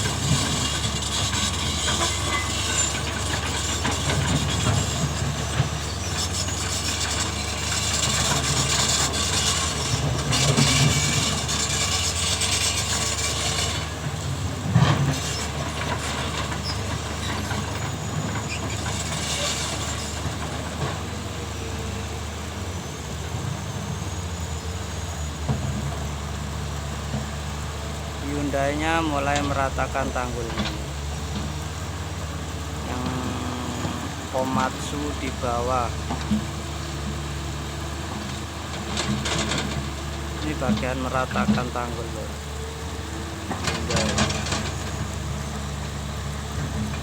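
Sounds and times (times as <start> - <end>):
excavator diesel engines running: 0.0 - 47.0.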